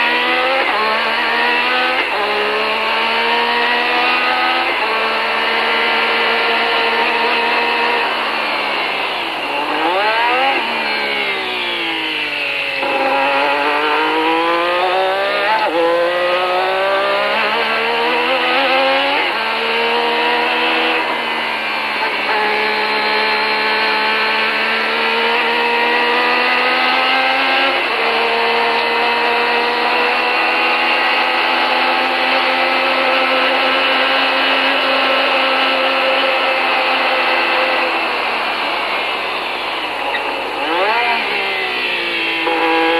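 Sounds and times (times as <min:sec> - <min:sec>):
racing car engine at high revs: 0:00.0 - 0:42.9.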